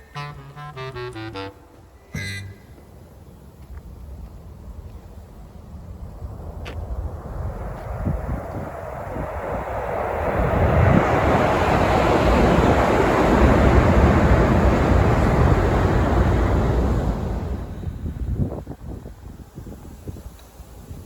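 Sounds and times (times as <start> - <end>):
train passing with rushing roar: 0.0 - 18.6
wind buffeting microphone: 2.8 - 21.0.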